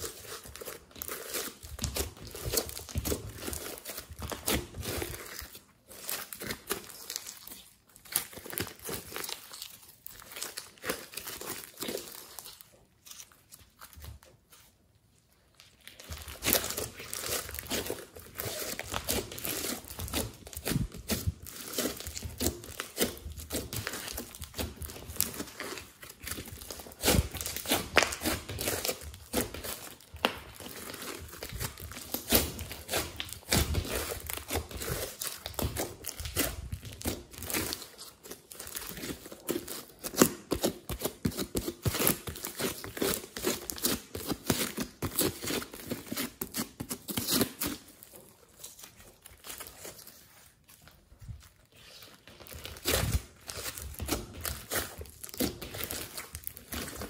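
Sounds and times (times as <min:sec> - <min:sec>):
slime crackling and squelching: 0:00.0 - 0:57.0.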